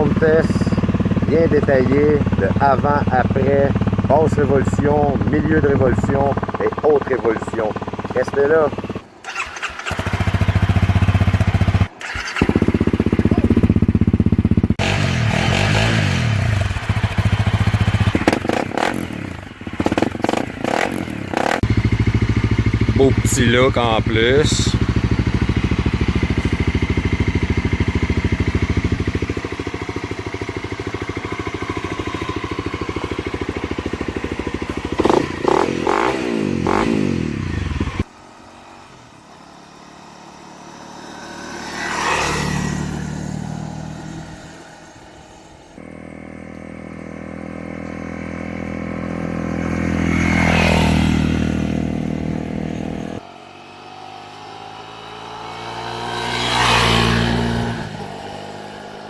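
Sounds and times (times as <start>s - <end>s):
dirt bike engine idling and revving: 0.0s - 59.0s
motorcycle passing by: 0.0s - 59.0s.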